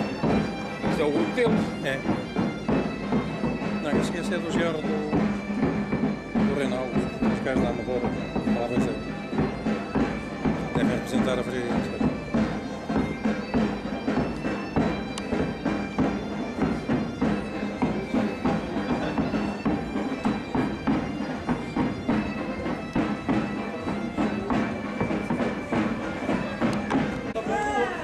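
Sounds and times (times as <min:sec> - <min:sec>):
bagpipes playing over a drone: 0:00.0 - 0:28.0
drums beating a steady rhythm: 0:00.0 - 0:28.0.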